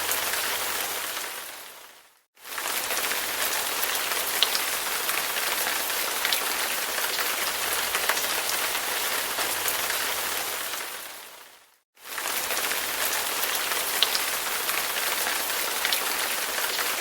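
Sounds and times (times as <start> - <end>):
rain falling on a surface: 0.0 - 17.0.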